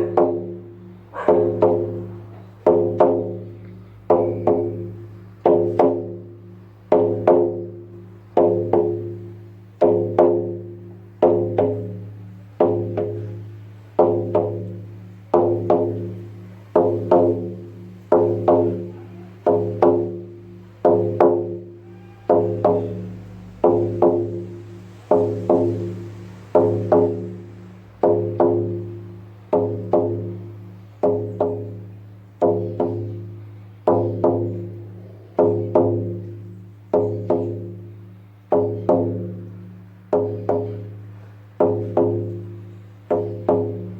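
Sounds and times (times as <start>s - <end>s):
drum beating slowly: 0.0s - 43.9s.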